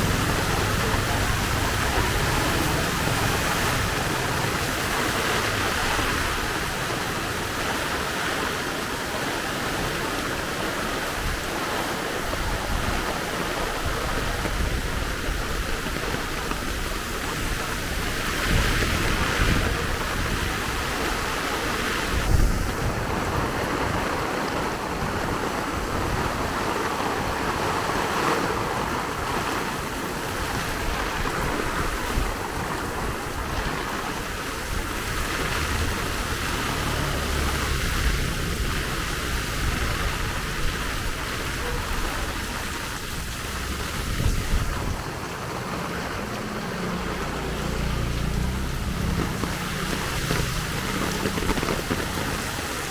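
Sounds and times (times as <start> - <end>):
rain hissing on a street: 0.0 - 52.9
vehicles passing on wet road: 0.0 - 52.9.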